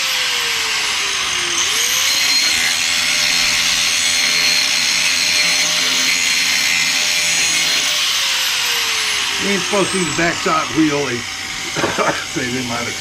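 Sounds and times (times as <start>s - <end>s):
angle grinder grinding steel: 0.0s - 13.0s.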